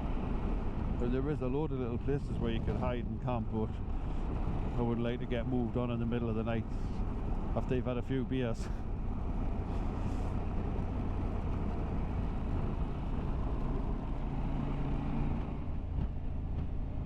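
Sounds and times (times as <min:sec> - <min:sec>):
motorcycle engine hum: 0:00.0 - 0:17.0
wind and road noise: 0:00.0 - 0:17.0.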